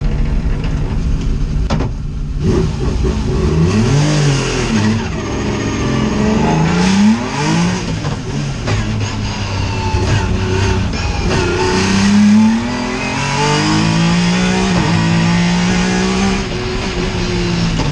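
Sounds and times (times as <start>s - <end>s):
racing car engine revving: 2.4s - 17.9s.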